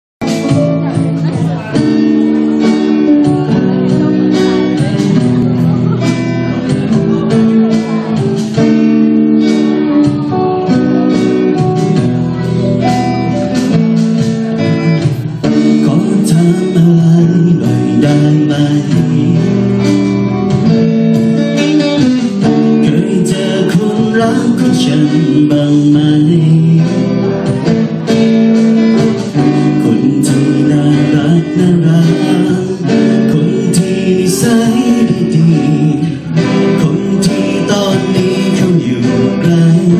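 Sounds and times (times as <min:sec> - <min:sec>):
man singing into a microphone: 0:00.2 - 0:12.6, 0:14.6 - 0:20.8, 0:22.0 - 0:28.2, 0:28.8 - 0:39.9
drum kit: 0:00.2 - 0:39.9
electric guitar: 0:00.2 - 0:39.9.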